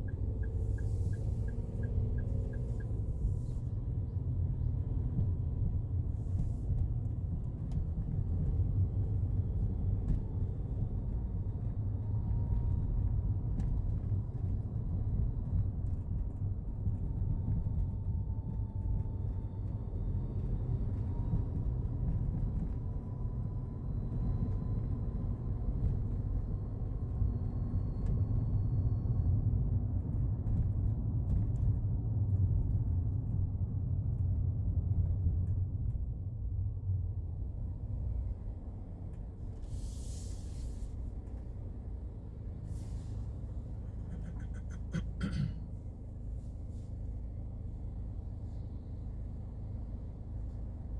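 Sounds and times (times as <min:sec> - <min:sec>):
van engine rumble with whine: 0:00.0 - 0:50.9.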